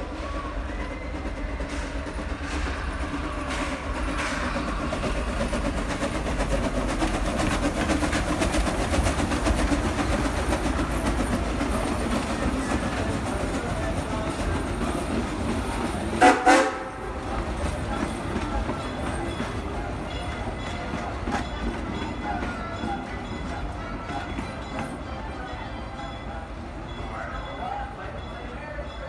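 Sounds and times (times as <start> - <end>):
wheels clattering over rails: 0.0 - 25.2
train cars knocking: 0.0 - 29.0
train rumble: 0.0 - 29.0.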